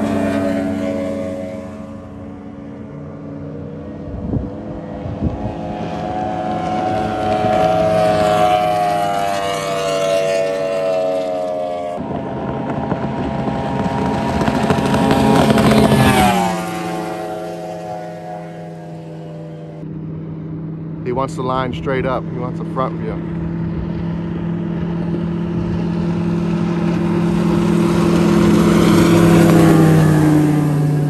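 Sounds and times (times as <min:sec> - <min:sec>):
outboard motor whining: 0:00.0 - 0:31.0.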